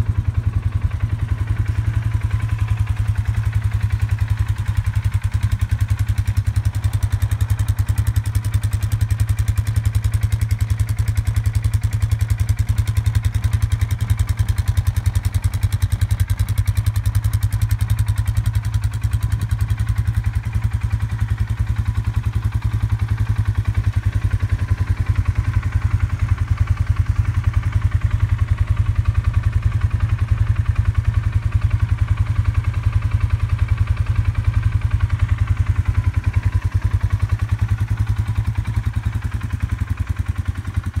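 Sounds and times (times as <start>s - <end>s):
atv engine idling: 0.0s - 41.0s.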